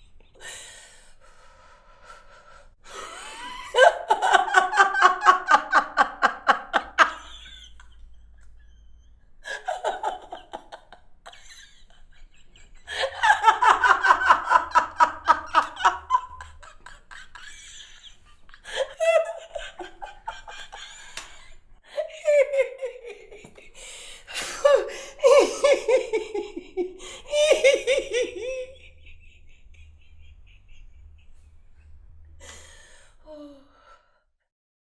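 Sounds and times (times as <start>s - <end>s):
woman laughing: 2.9s - 31.5s.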